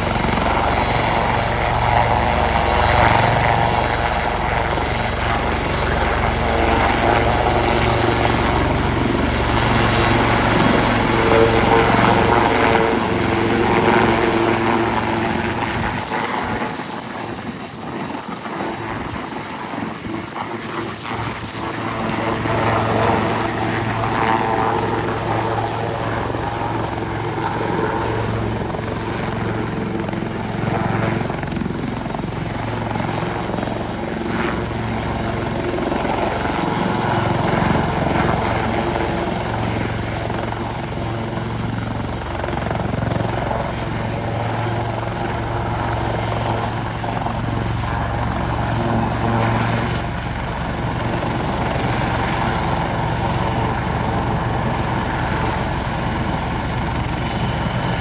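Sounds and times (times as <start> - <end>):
helicopter flying: 0.0 - 58.0.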